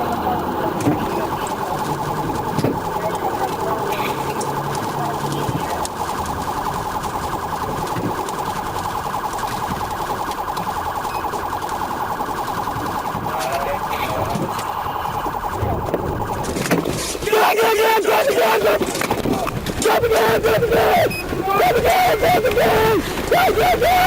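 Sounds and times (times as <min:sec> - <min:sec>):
police car siren warbling: 0:00.0 - 0:24.0.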